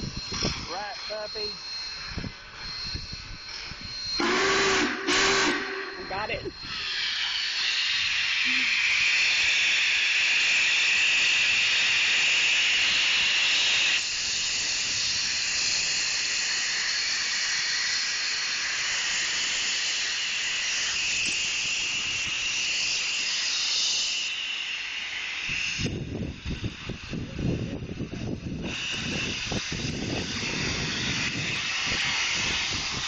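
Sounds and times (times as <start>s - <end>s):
loud hiss of escaping steam: 3.5s - 33.0s.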